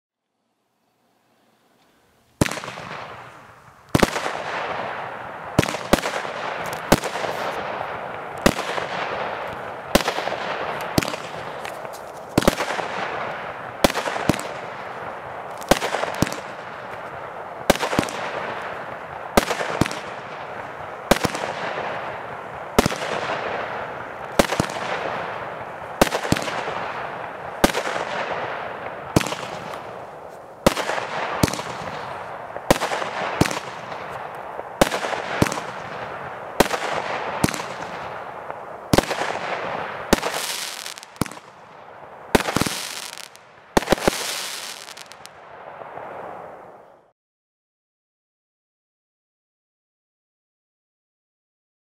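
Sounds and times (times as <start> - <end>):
firework bangs: 2.4 - 46.8.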